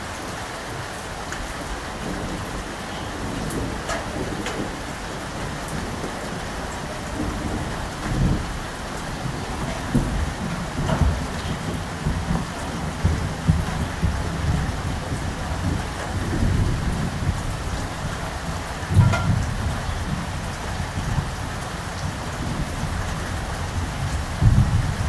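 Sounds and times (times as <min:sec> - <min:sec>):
steady rain falling: 0:00.0 - 0:25.0
thunder rumbling: 0:00.0 - 0:25.0.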